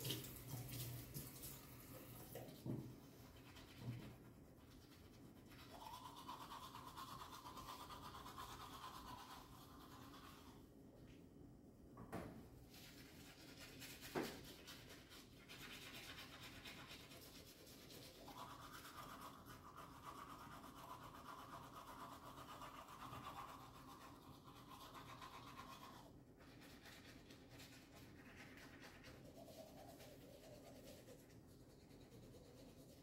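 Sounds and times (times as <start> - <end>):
toothbrush scrubbing teeth: 0.0 - 10.6, 12.7 - 33.0.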